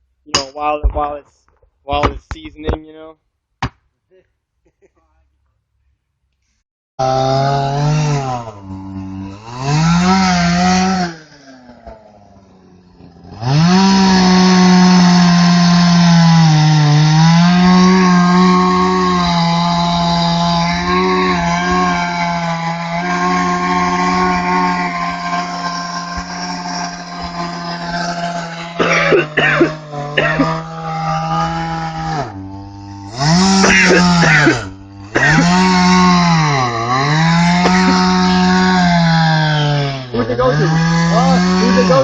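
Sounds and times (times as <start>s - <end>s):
chainsaw cutting at full throttle: 7.0s - 42.0s.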